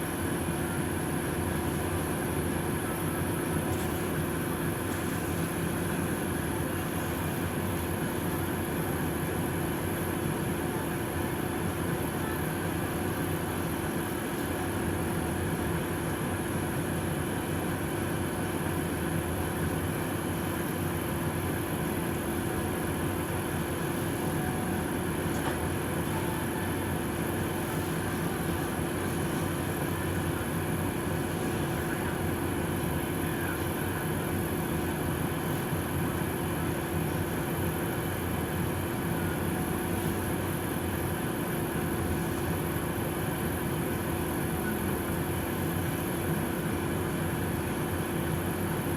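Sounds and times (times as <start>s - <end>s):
bus engine and road drone: 0.0s - 48.9s.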